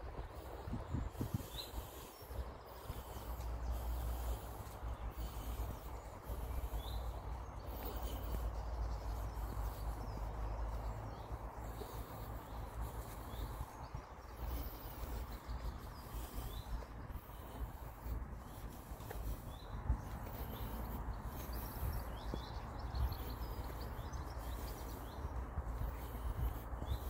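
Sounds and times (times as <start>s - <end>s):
bird chirping: 0.0s - 27.0s
wind rumble on microphone: 0.0s - 27.0s.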